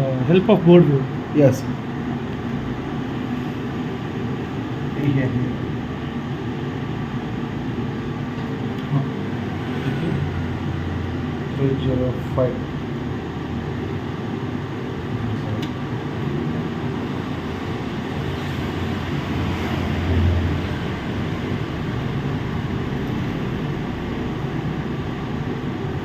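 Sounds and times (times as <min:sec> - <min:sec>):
machinery droning hum: 0:00.0 - 0:26.0.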